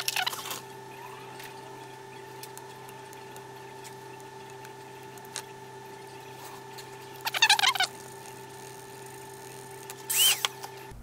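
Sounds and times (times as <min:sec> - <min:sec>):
brush scrubbing circuit board: 0:00.0 - 0:10.8
faint electrical hum: 0:00.0 - 0:11.0.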